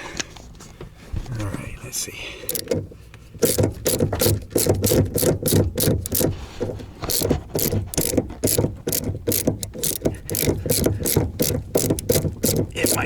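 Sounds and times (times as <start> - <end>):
ratchet clicking: 2.5 - 13.0.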